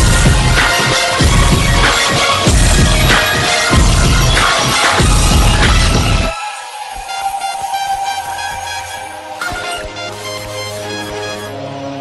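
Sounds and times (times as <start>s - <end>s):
music with heavy bass beat: 0.0s - 11.6s.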